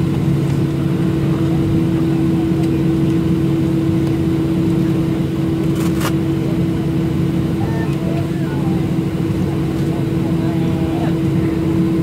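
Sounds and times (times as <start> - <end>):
aircraft cabin engine drone: 0.0 - 12.0.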